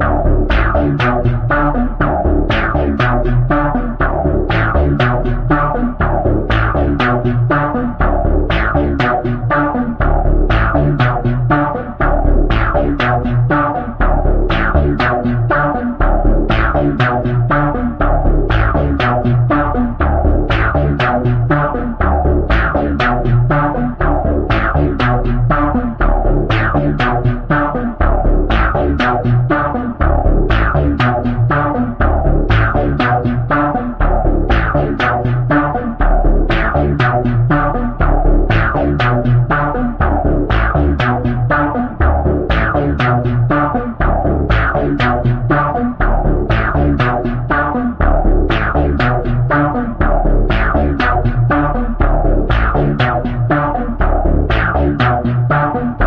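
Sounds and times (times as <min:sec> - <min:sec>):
stepping bass line: 0:00.0 - 0:56.0
synthesizer chords: 0:00.0 - 0:56.0.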